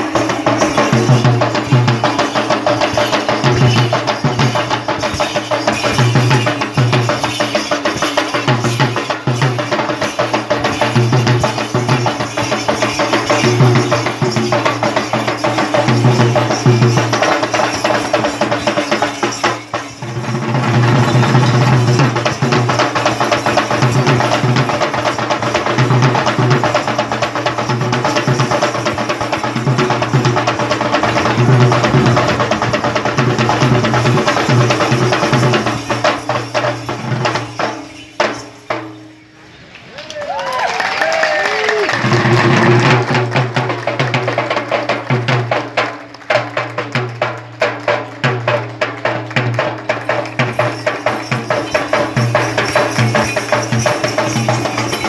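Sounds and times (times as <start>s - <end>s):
hand drums fast rhythm: 0.0s - 38.9s, 42.0s - 55.0s.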